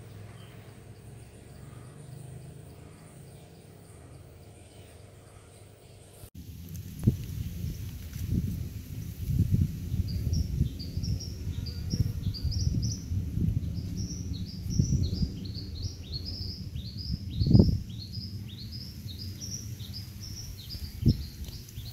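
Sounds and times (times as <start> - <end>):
low uneven rumble: 0.0 - 21.9.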